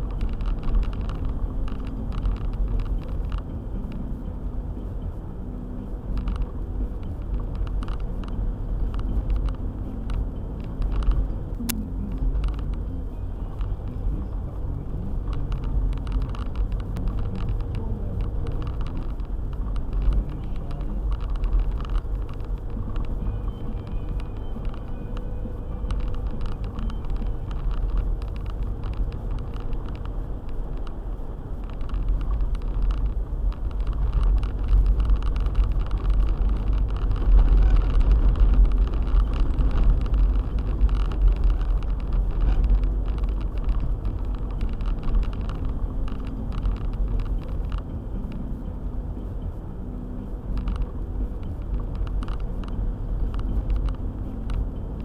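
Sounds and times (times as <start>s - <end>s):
engine and tyres rumbling: 0.0s - 55.0s
light ticks: 0.0s - 55.0s.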